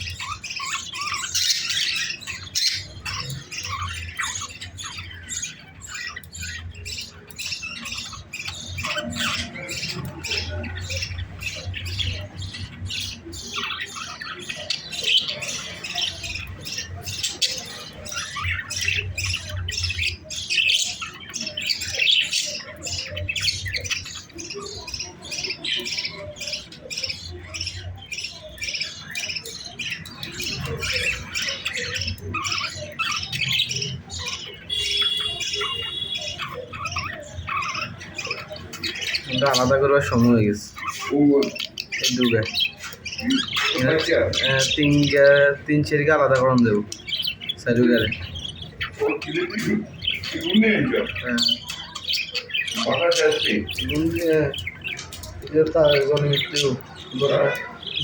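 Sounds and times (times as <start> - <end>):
bird chicks squawking: 0.0 - 58.0.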